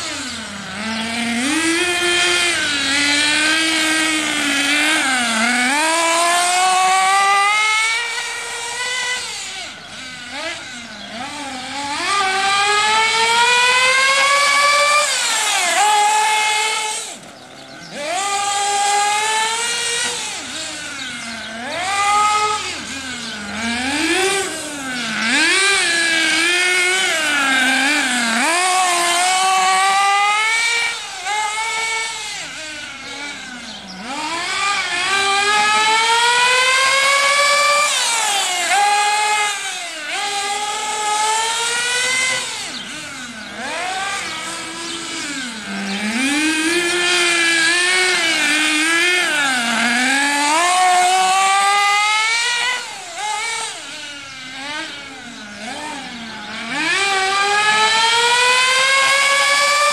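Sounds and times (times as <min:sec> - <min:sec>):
model car engine revving: 0:00.0 - 0:59.9.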